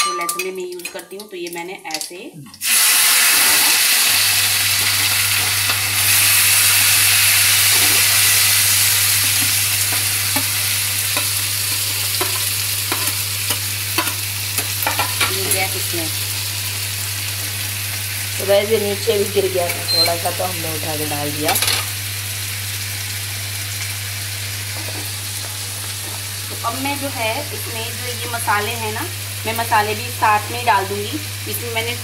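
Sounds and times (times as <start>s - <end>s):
onion and tomato sizzling in oil: 2.6s - 32.0s.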